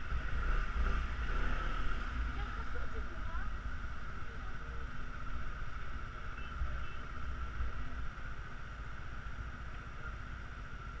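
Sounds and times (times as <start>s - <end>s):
muffled scooter engine rumble: 0.0s - 11.0s.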